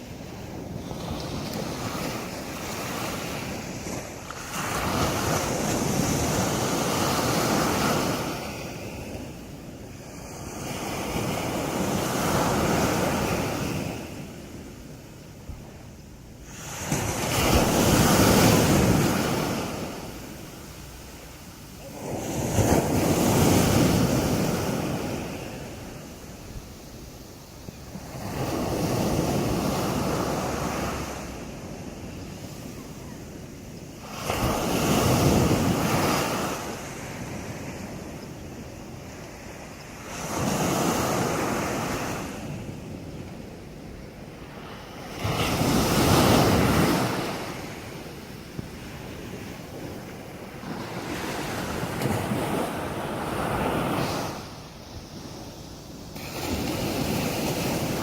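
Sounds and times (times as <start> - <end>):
waves breaking on a beach: 0.0 - 58.0.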